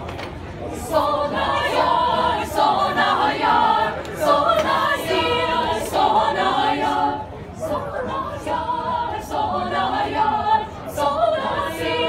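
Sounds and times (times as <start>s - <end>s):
choir singing a cappella: 0.7s - 12.0s.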